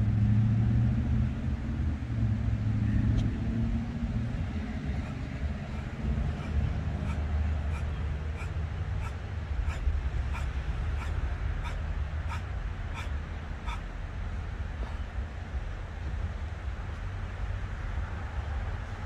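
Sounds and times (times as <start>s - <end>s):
hum: 0.0s - 19.0s
motor vehicle rumble: 0.0s - 19.0s.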